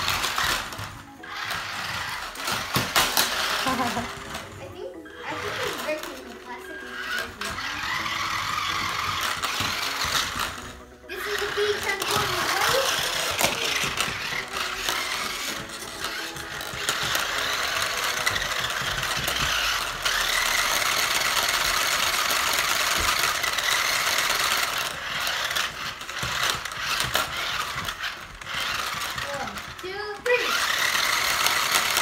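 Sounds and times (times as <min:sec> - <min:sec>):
toy car motors whirring: 0:00.0 - 0:32.0.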